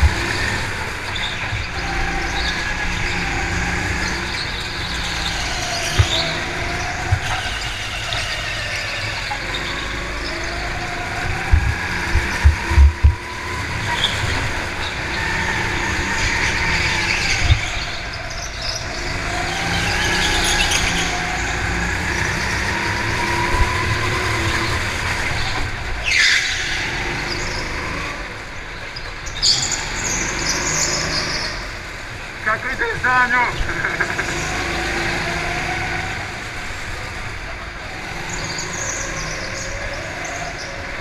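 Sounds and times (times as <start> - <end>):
go-kart engine revving: 0.0 - 41.0.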